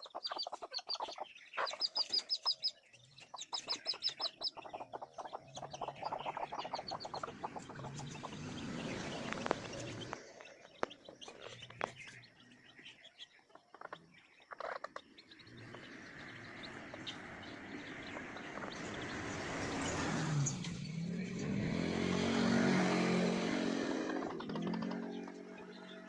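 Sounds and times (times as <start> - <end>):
faint bird chirps: 0.0 - 21.5, 24.0 - 26.0
motor vehicle engine approaching: 1.8 - 26.0.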